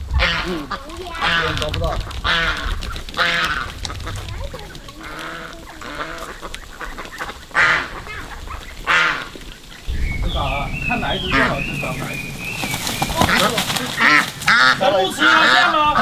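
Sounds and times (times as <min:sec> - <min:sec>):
waterfowl harsh nasal calls: 0:00.0 - 0:16.0.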